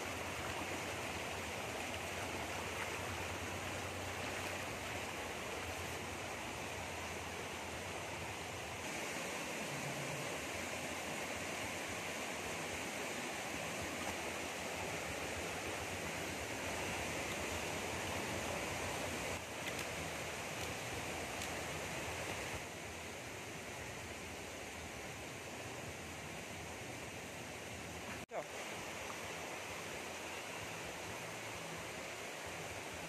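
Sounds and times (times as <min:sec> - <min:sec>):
river running over rocks: 0:00.0 - 0:33.0.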